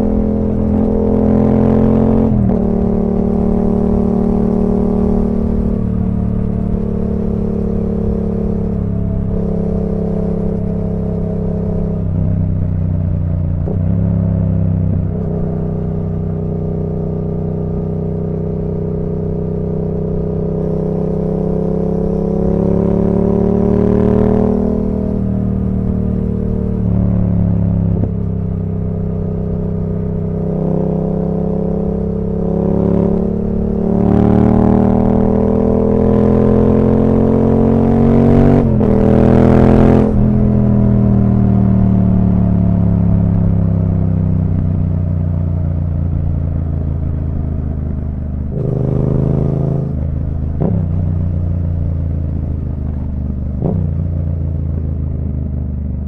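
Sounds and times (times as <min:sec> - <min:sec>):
motorcycle engine accelerating: 0:00.0 - 0:56.0
motorcycle throttle blips: 0:00.0 - 0:56.0.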